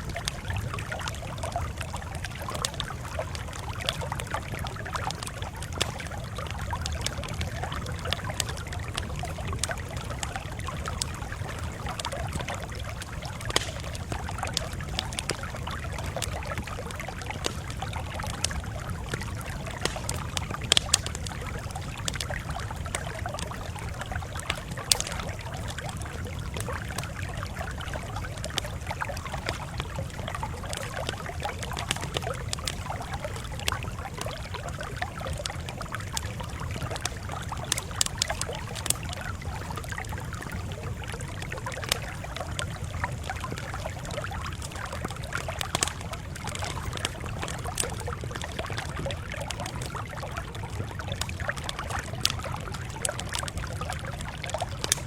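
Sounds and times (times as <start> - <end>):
campfire crackling: 0.0 - 55.0
sharp pops of fire: 0.0 - 55.0.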